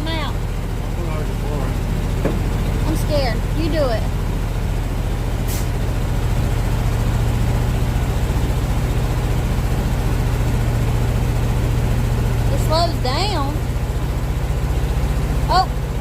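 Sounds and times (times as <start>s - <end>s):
truck engine fast idle: 0.0s - 16.0s.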